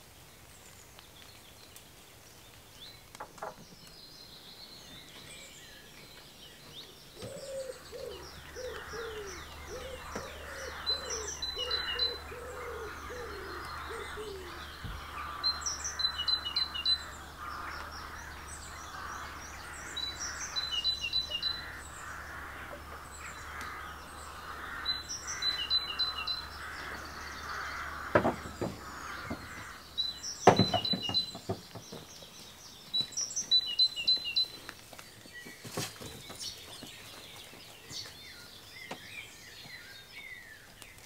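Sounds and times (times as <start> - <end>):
songbirds singing: 0.0 - 41.0.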